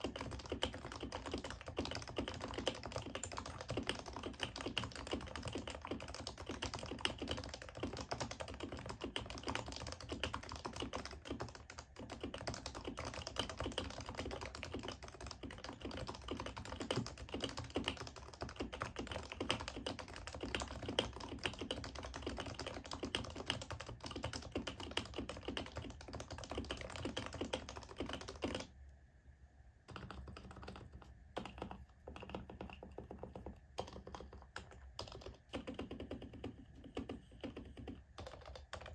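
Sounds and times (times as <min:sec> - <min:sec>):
keyboard typing: 0:00.0 - 0:28.7, 0:29.9 - 0:38.9.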